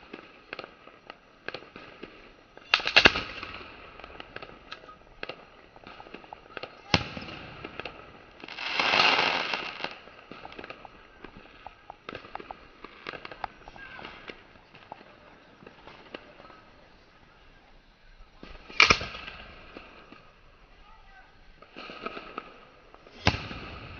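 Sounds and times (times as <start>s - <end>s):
firework pops and crackles: 0.0s - 23.9s
firework bang: 1.5s - 16.6s, 18.4s - 20.3s, 21.6s - 23.9s
firework rushing burst: 1.6s - 17.0s, 18.4s - 20.6s, 21.4s - 23.9s.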